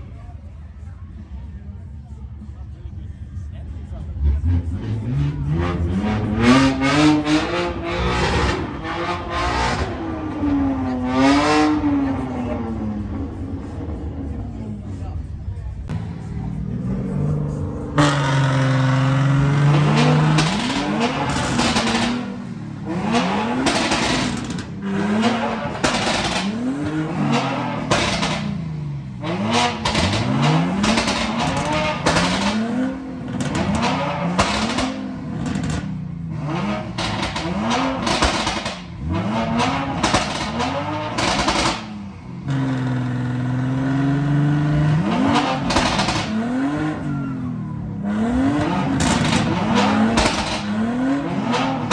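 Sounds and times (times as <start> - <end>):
car engine revving hard: 4.2 - 13.7, 16.7 - 51.9.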